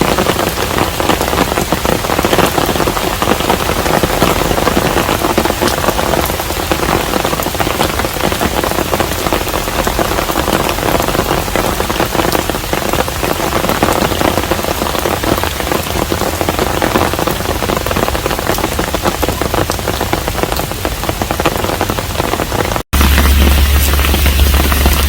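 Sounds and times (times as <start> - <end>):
rain falling on a house: 0.0 - 25.0.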